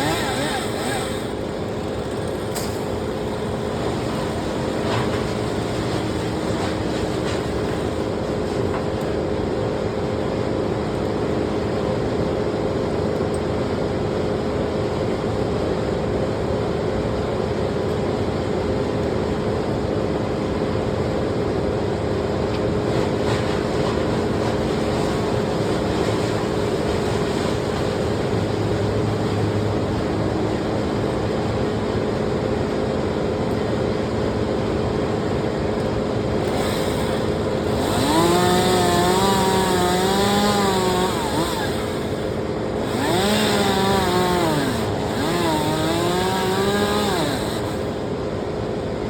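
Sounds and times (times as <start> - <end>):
engine running steadily: 0.0 - 12.4, 22.0 - 49.0.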